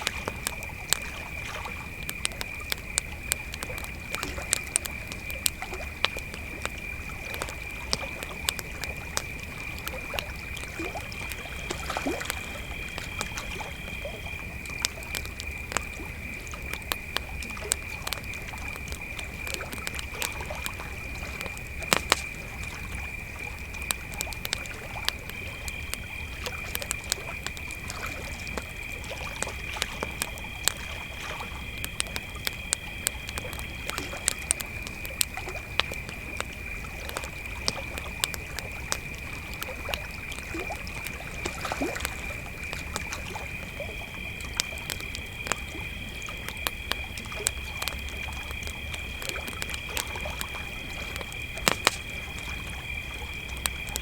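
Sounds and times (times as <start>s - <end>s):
campfire crackling and popping: 0.0s - 54.0s
crickets trilling: 0.0s - 54.0s.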